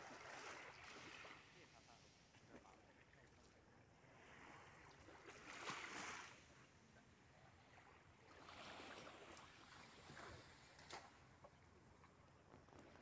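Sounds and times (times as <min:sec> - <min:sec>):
small waves washing on shore: 0:00.0 - 0:06.8, 0:07.6 - 0:11.4.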